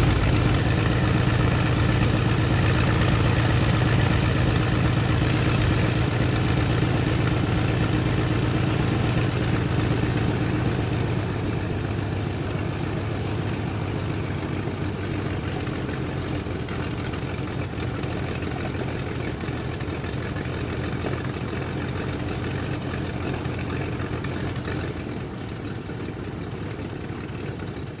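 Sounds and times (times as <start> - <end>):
piston engine idling: 0.0 - 28.0.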